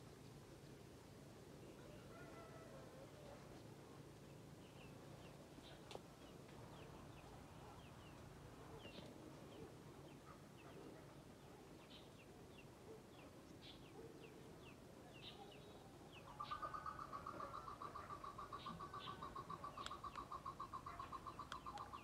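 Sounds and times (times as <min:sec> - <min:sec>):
small birds chirping: 0:03.2 - 0:22.0.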